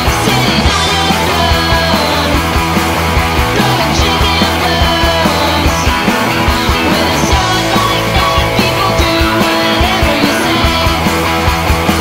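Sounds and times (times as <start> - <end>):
rock music with drum beat: 0.0 - 12.0.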